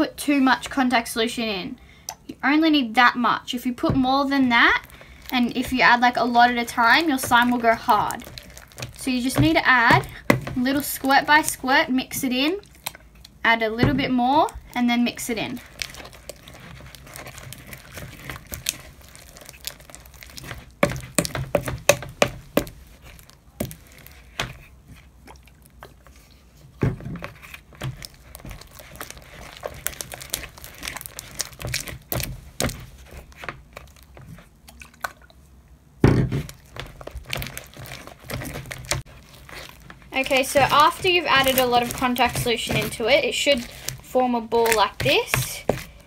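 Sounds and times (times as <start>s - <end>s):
spoon stirring sticky slime: 3.6s - 35.5s, 36.3s - 46.0s.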